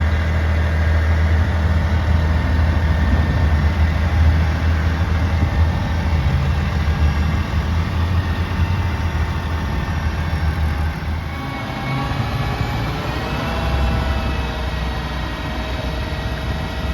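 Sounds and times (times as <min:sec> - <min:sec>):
diesel engine low hum: 0:00.0 - 0:16.9
rising whine: 0:00.0 - 0:16.9.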